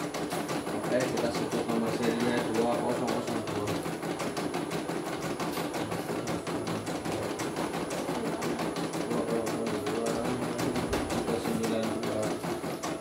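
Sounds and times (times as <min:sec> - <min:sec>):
embroidery machine stitching: 0:00.0 - 0:13.0.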